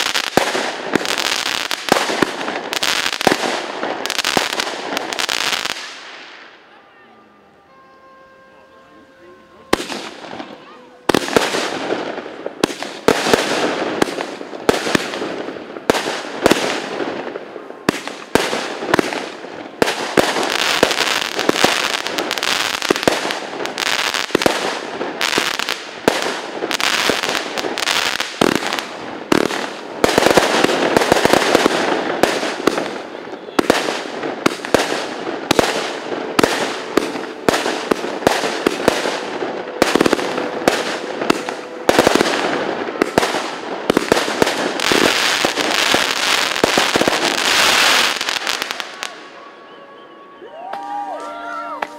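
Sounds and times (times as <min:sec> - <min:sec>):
fireworks bangs: 0:00.0 - 0:06.9, 0:09.6 - 0:49.5
fireworks crackle: 0:00.0 - 0:06.9, 0:09.6 - 0:49.5.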